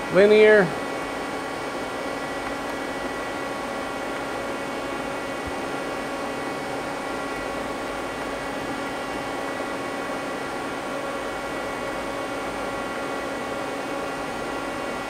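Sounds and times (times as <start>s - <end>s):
lathe machine humming: 0.0s - 15.0s.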